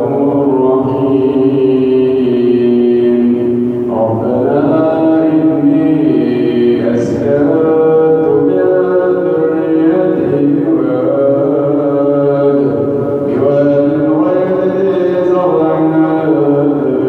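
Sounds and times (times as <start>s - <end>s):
solo voice chanting recitation: 0.0s - 17.0s.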